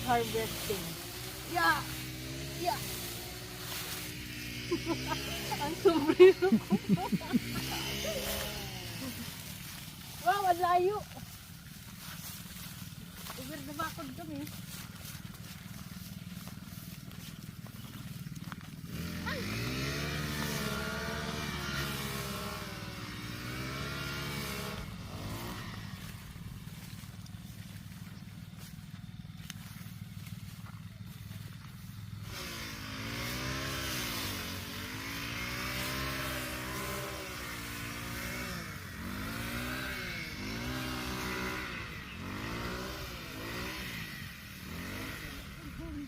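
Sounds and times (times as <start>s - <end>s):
brush cutter cutting stalks: 0.0s - 46.0s
low engine hum: 0.0s - 46.0s.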